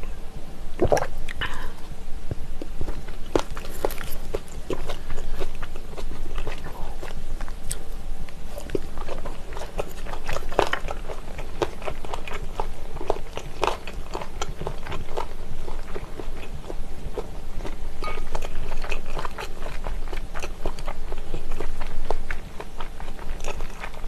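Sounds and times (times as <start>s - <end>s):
chewing with crunches: 2.6s - 24.0s.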